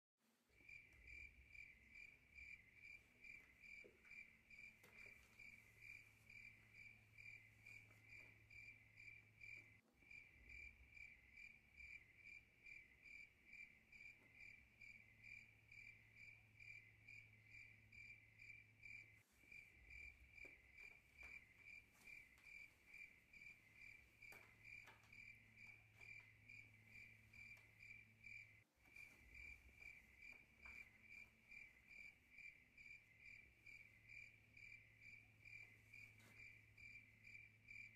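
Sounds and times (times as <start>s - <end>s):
crickets chirping: 0.6s - 37.9s.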